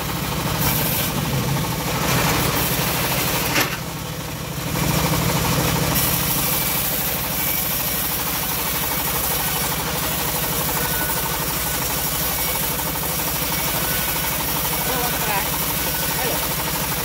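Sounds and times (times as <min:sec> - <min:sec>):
bandsaw sawmill running: 0:00.0 - 0:17.0.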